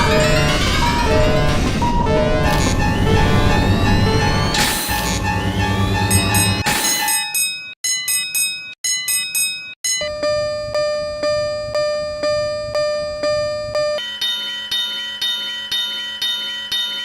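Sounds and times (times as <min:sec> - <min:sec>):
level crossing warning bells ringing: 0:00.0 - 0:17.0.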